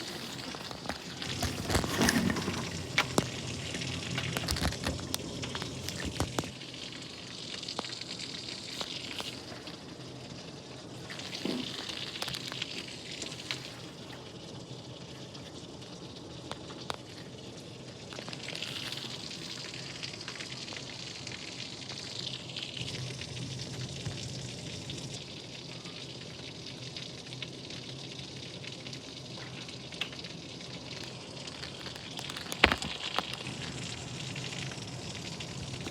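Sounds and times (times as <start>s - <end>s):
rain falling: 0.0s - 25.8s, 26.4s - 35.9s.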